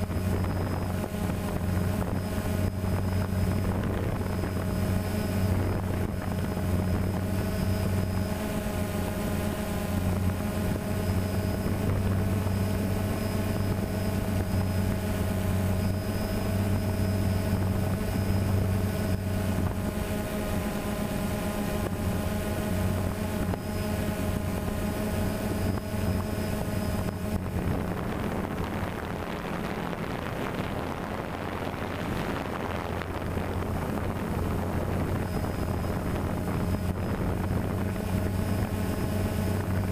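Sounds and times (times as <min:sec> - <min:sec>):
drone propellers humming: 0:00.0 - 0:39.9
rushing wind noise: 0:00.0 - 0:39.9.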